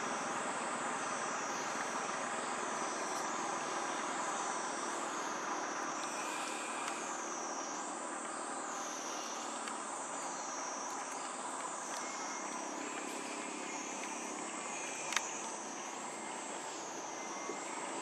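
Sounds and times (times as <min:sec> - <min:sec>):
background hiss: 0:00.0 - 0:18.0
cicadas shrilling: 0:00.0 - 0:18.0.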